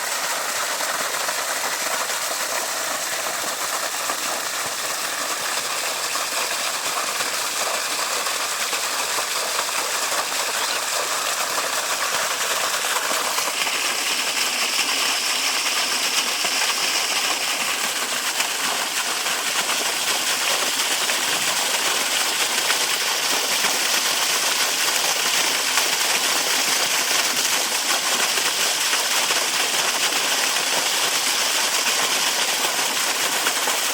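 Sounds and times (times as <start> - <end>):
water falling and splashing: 0.0 - 33.9.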